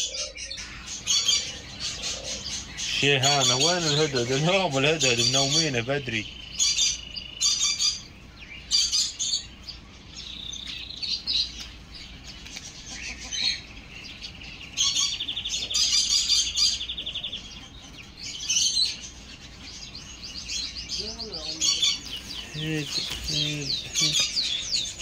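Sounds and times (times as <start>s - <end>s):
birds chirping: 0.0s - 25.0s
fast bird trill: 0.0s - 25.0s.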